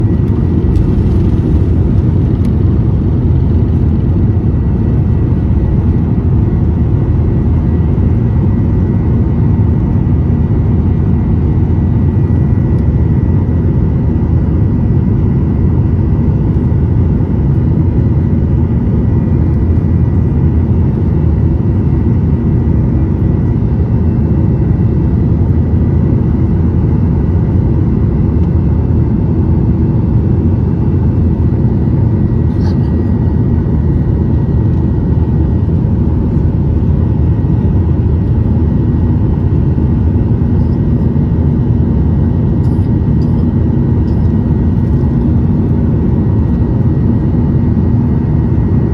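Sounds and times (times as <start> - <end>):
faint steady whine: 0.0 - 48.9
jet engine rumble: 0.0 - 48.9.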